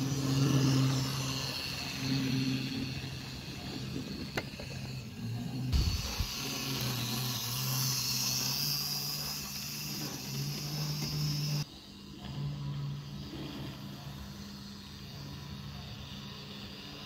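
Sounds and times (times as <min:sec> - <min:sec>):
model train rolling on track: 0:00.0 - 0:17.0.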